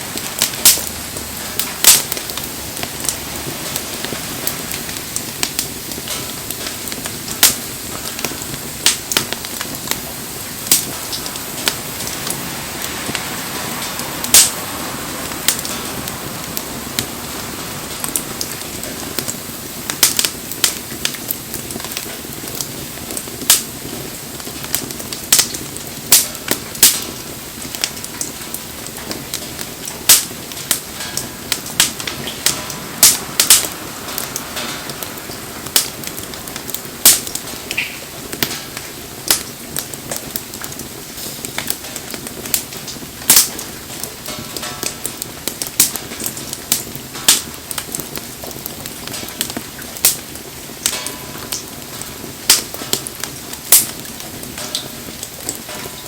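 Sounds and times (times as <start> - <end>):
bonfire crackling and popping: 0.0 - 56.0
rain hissing: 0.0 - 56.0.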